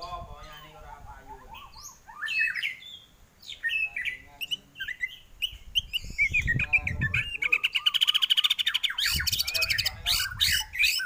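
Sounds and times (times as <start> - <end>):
songbird whistles and chirps: 0.4 - 11.0.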